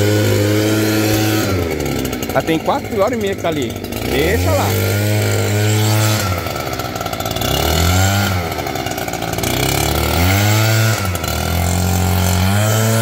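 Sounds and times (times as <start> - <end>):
leaf blower engine revving: 0.0 - 13.0.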